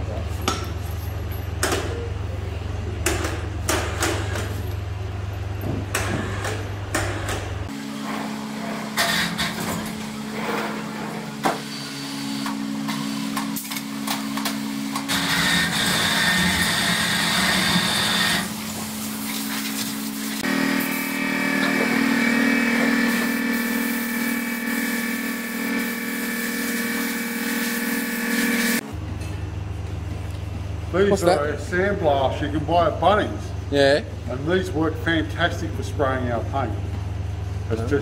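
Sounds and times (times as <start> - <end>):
workshop machinery humming: 0.0 - 38.0.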